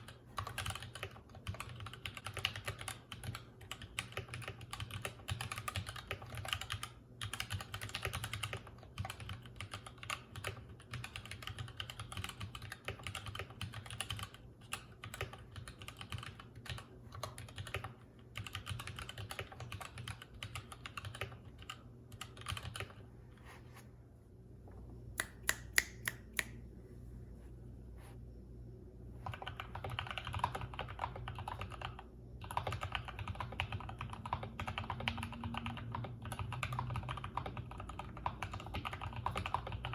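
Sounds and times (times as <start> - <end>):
typing on mechanical keyboard: 0.0 - 23.0, 29.2 - 39.9
steady low hum: 0.0 - 39.9.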